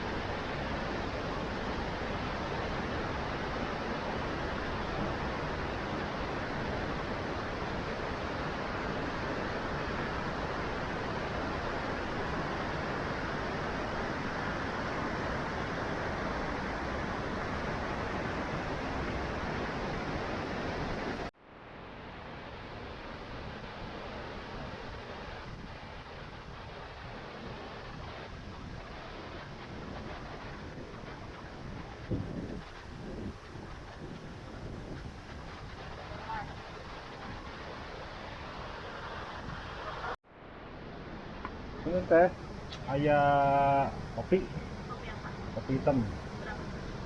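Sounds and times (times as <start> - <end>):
waterfall rushing: 0.0 - 21.3, 22.0 - 47.0.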